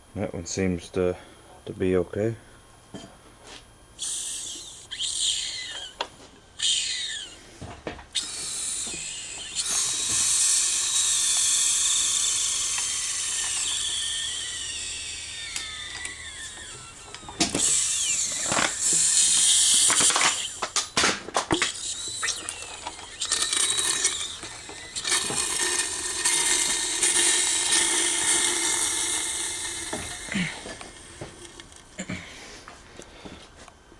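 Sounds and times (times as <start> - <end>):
power tool whirring: 4.0 - 32.0.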